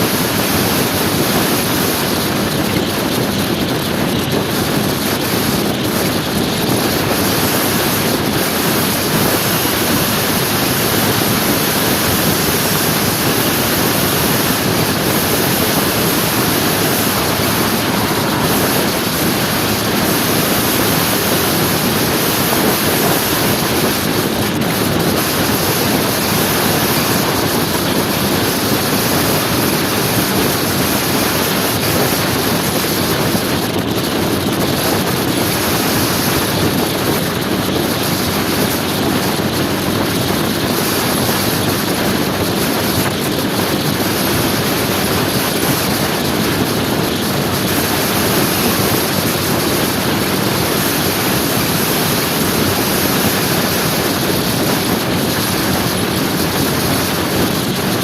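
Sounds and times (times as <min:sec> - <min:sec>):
motor scooter engine: 0:00.0 - 0:58.0
wind rushing over microphone: 0:00.0 - 0:58.0.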